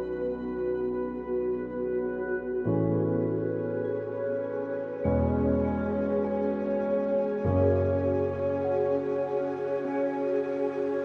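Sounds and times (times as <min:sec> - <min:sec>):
ambient music sustained chords: 0:00.0 - 0:11.0.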